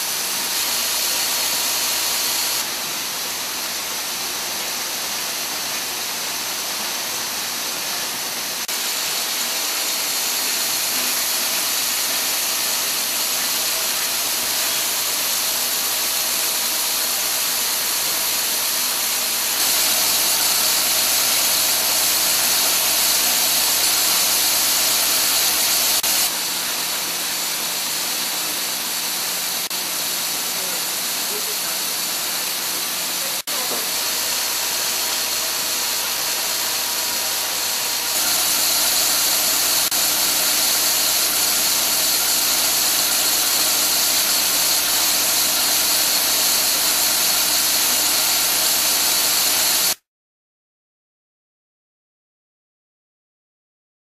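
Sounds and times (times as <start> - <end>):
hissing machine noise: 0.0 - 50.0.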